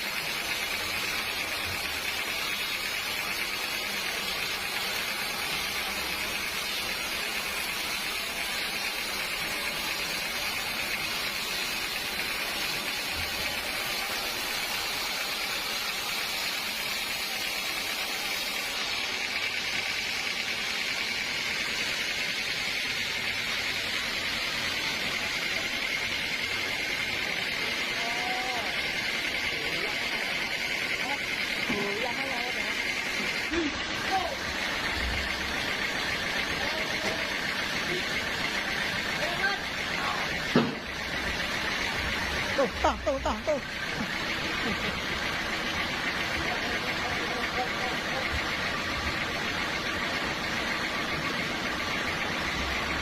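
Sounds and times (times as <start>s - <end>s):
high steady machine whine: 0.0s - 53.0s
sawmill machinery hissing: 0.0s - 53.0s.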